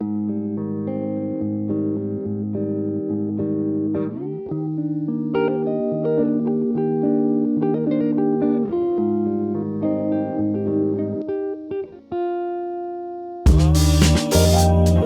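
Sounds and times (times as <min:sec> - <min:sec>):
guitar picking notes and chords: 0:00.0 - 0:15.0.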